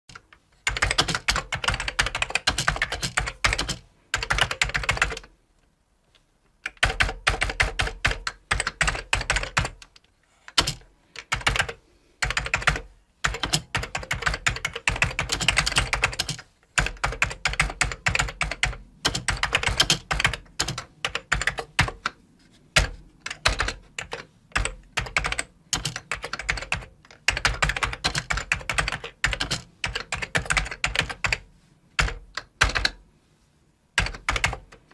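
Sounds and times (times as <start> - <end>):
typing on computer keyboard: 0.1 - 5.3, 6.6 - 31.4, 32.0 - 33.0, 34.0 - 34.9.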